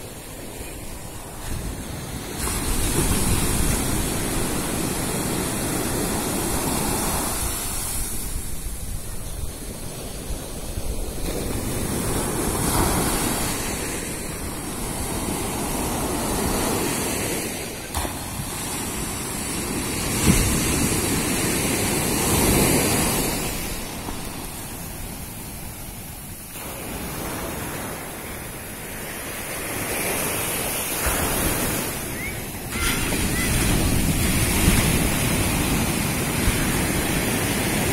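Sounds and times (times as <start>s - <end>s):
sea surf breaking on beach: 0.0s - 37.9s.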